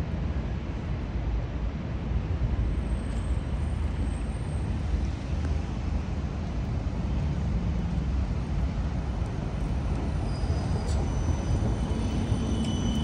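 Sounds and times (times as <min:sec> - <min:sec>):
city traffic rumble: 0:00.0 - 0:13.0
tram approaching on track: 0:00.1 - 0:13.0.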